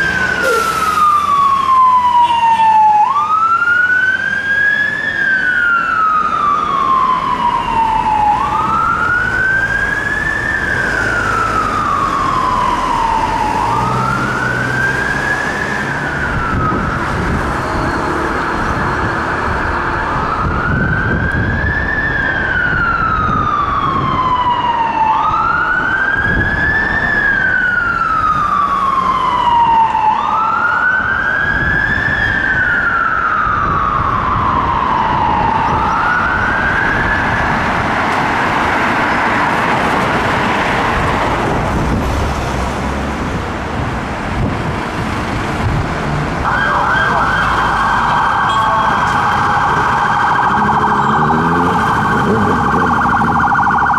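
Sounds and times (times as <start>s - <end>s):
fire engine siren wailing: 0.0s - 53.9s
traffic noise: 0.0s - 53.9s.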